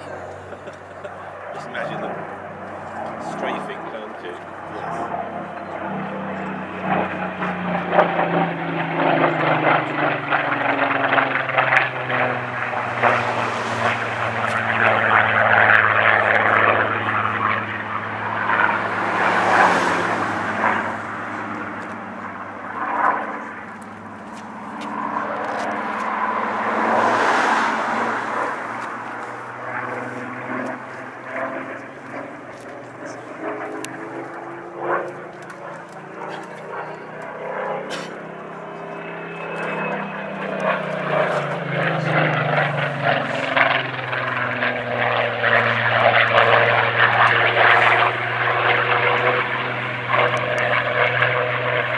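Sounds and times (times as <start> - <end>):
propeller aircraft engine passing: 0.0 - 51.9.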